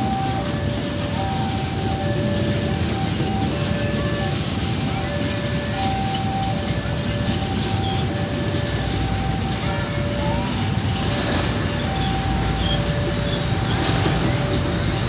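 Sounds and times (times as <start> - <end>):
train running by: 0.0 - 15.0.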